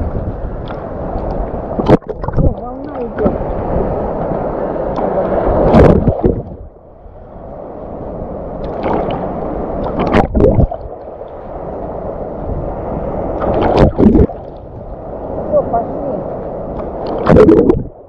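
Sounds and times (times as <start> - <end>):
sea water sloshing and splashing: 0.0 - 18.0.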